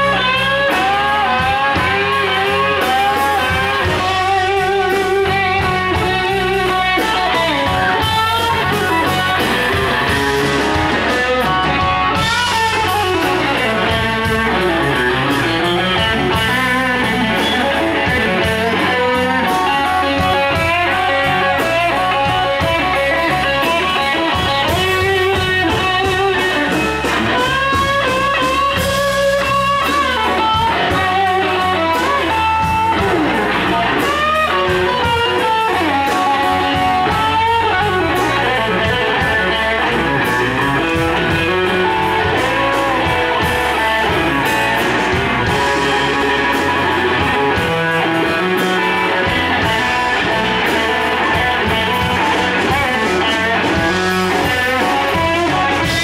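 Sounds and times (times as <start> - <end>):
drums: 0.0 - 56.0
electric bass: 0.0 - 56.0
electric guitar solo: 0.0 - 56.0.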